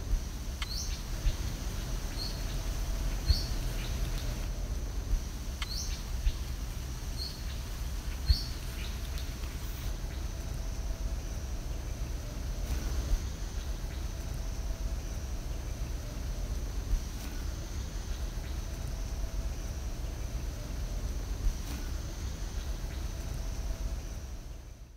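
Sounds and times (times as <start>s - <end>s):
high-pitched insect hum: 0.0s - 24.9s.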